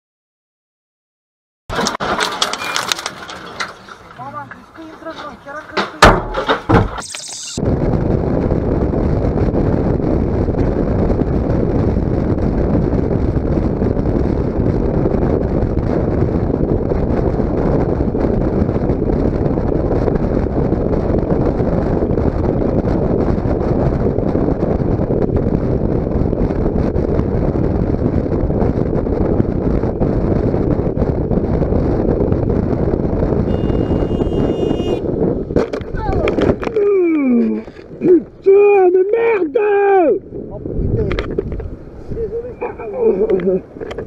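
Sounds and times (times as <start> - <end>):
wind buffeting microphone: 7.6 - 44.0.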